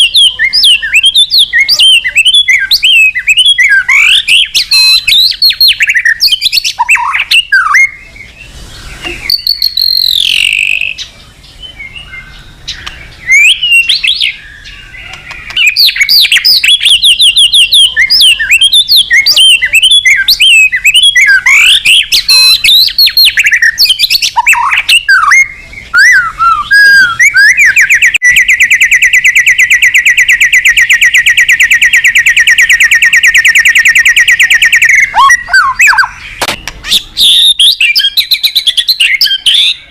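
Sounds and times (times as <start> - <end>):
bird whistles and chirps: 0.0 - 39.9
rapid bird trill: 0.0 - 39.9.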